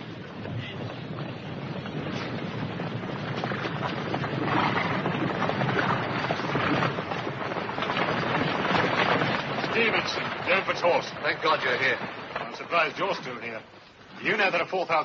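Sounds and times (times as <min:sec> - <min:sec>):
horses galloping hoofbeats: 0:00.0 - 0:15.0.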